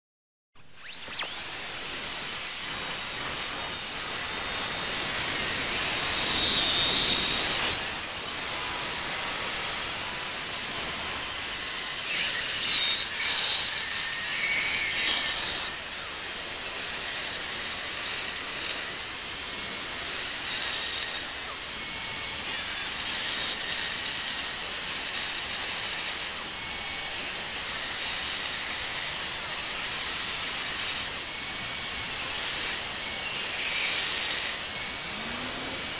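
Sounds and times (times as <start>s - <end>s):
dentist's drill whining: 0.6s - 35.9s.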